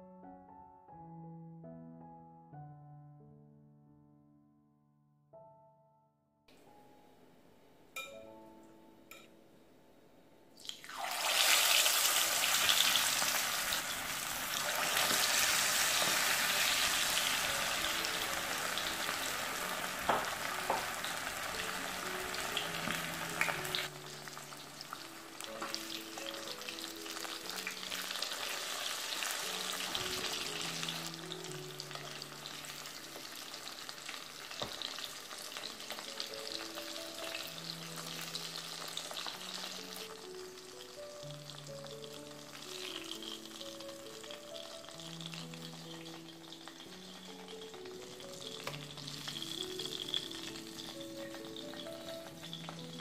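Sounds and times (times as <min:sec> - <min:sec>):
chicken deep-frying in hot oil: 0:10.6 - 0:53.0.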